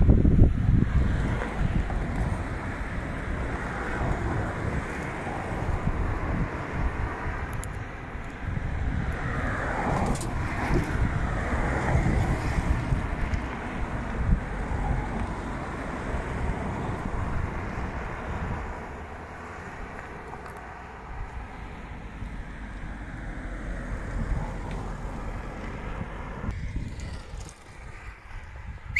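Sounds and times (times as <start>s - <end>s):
wind rumbling on microphone: 0.0s - 28.9s.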